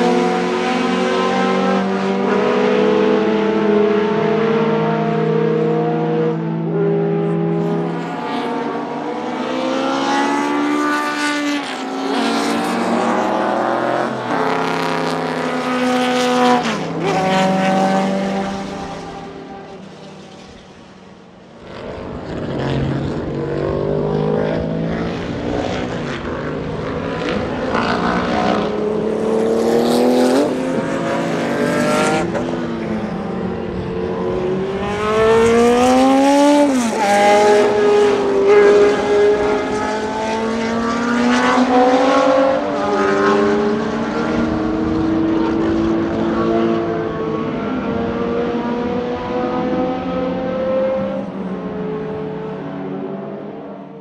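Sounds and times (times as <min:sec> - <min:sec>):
racing engine accelerating through gears: 0:00.0 - 0:20.5, 0:21.7 - 0:53.5.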